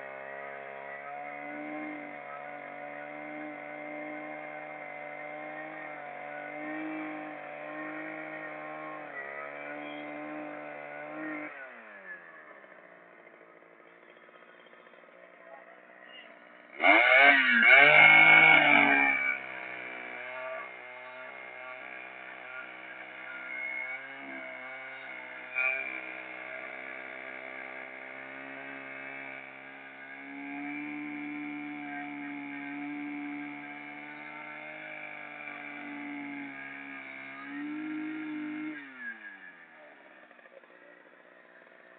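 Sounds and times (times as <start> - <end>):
chainsaw engine revving and idling: 0.0 - 41.9.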